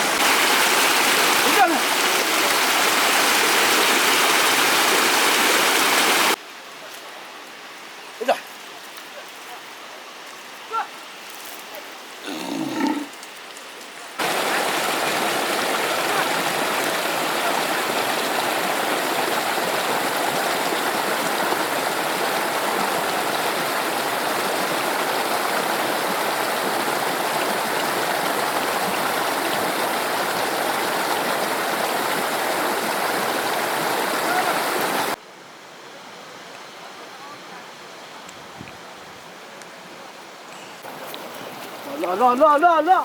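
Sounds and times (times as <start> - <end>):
stream flowing: 0.0 - 35.2, 37.7 - 43.0.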